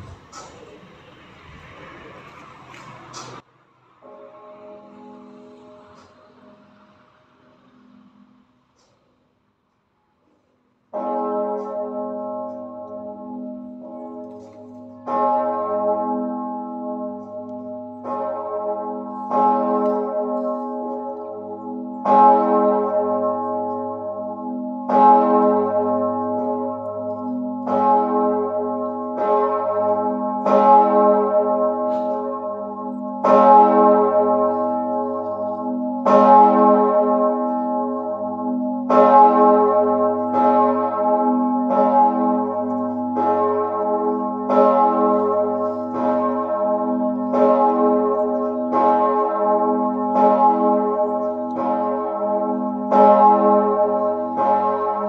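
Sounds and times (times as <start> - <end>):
large church bell tolling: 4.0 - 8.5, 10.9 - 55.0.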